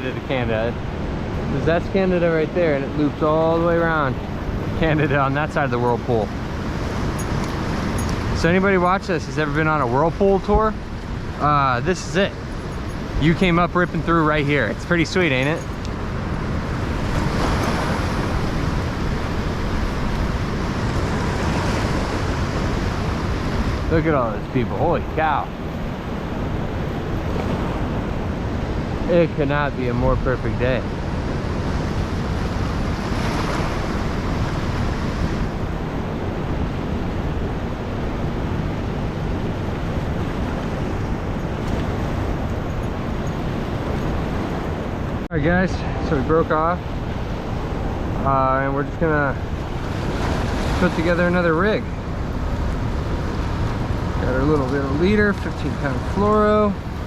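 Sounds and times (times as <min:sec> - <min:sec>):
river water flowing: 0:00.0 - 0:57.0
wind buffeting microphone: 0:00.0 - 0:57.0.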